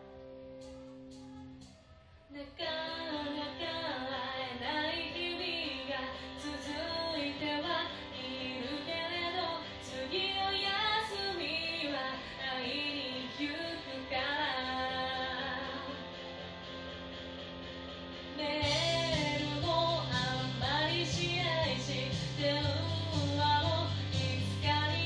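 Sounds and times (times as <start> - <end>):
karaoke backing track: 0.0 - 25.0
woman singing into microphone: 2.3 - 16.1, 18.4 - 25.0.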